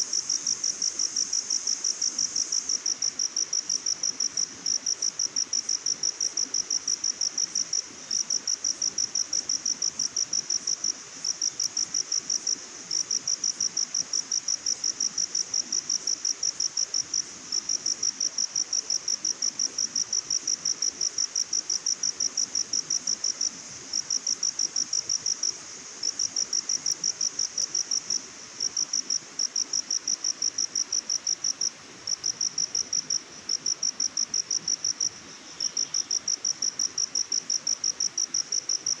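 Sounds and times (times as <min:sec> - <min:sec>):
cricket chirping: 0:00.0 - 0:39.0
faint forest hiss: 0:00.0 - 0:39.0.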